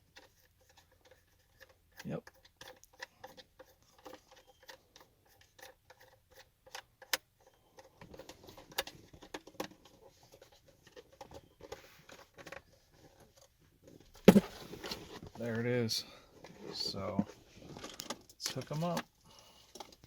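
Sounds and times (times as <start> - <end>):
plastic parts clicking and scraping: 0.0 - 20.0.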